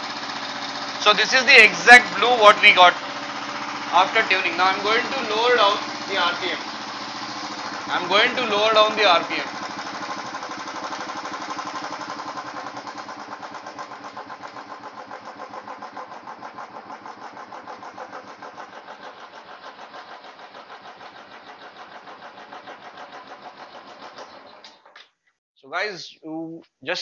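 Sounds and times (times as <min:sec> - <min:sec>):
motorcycle engine idling: 0:00.0 - 0:24.6.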